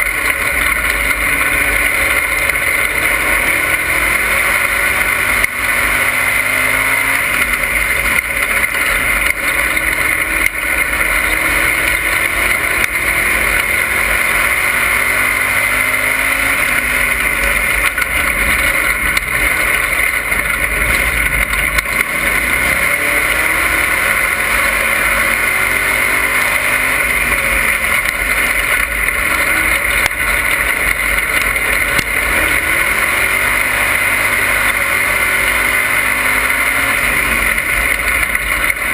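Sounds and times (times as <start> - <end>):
race car engine revving: 0.0 - 38.9
steady rushing noise: 0.0 - 38.9.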